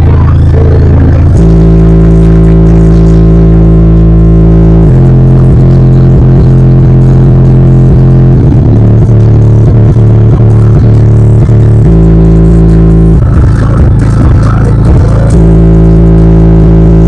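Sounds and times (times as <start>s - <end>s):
loud bass-heavy music in car: 0.0s - 17.0s.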